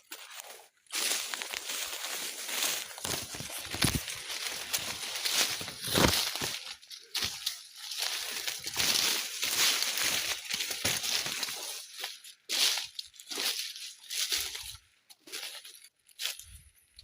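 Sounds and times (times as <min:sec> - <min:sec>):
footsteps crunching on dry ground: 0:00.0 - 0:17.0.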